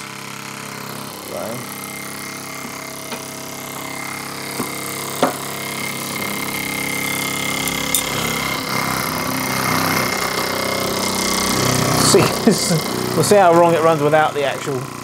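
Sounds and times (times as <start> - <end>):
toy steam engine running: 0.1 - 15.0.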